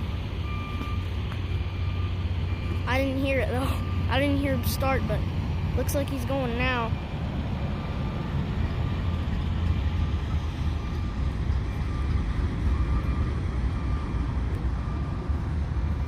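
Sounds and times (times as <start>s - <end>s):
diesel locomotive engine idling: 0.0s - 16.0s.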